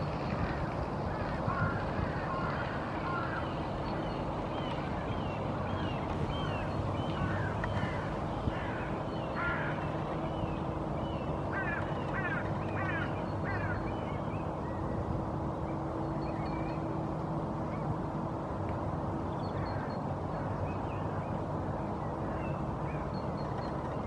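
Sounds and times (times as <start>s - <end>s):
wild birds chirping: 0.4s - 18.0s, 19.1s - 24.0s.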